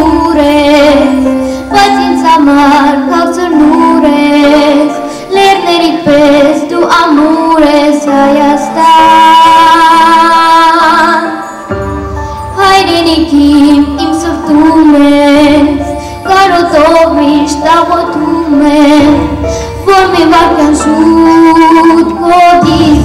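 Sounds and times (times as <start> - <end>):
girl singing into a microphone: 0.0 - 11.6, 12.2 - 23.0
musical accompaniment: 0.0 - 23.0.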